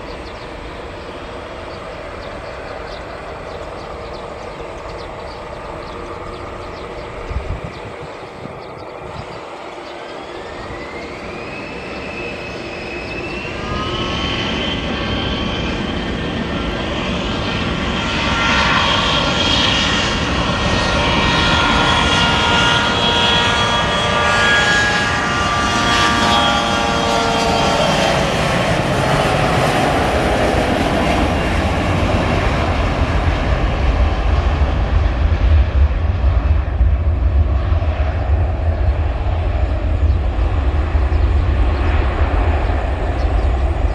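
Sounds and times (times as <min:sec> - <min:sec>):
deep jet exhaust rumble: 0:00.0 - 0:43.9
jet engine roar: 0:00.0 - 0:43.9
jet engine whine: 0:00.0 - 0:43.9.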